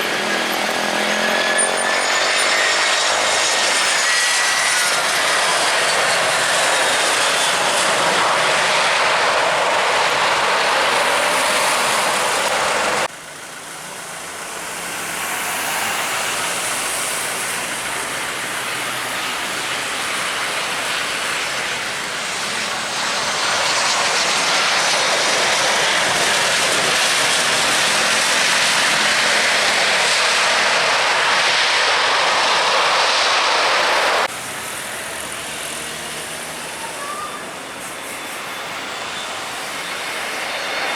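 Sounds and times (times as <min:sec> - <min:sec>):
airliner engines rushing: 0:00.0 - 0:40.9.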